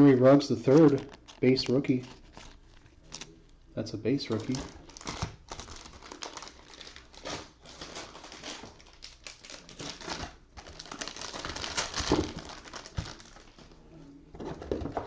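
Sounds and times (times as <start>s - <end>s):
cards and plastic rustling: 0.0s - 3.6s, 4.2s - 13.8s.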